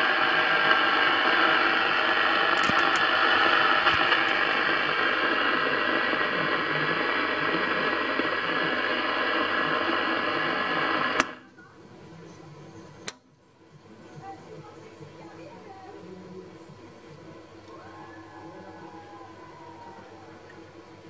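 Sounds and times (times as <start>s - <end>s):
radio static hiss: 0.0s - 17.7s.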